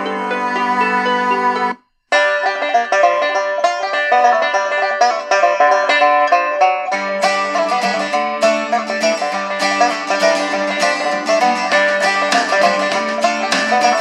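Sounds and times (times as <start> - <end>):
plucked music through radio speaker: 0.0 - 14.0.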